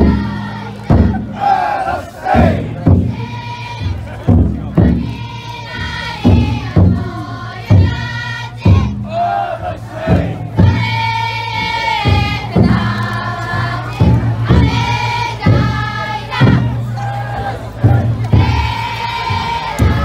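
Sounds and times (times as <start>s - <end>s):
crowd chanting and calling: 0.0s - 20.0s
heavy taiko drum beats: 0.0s - 20.0s.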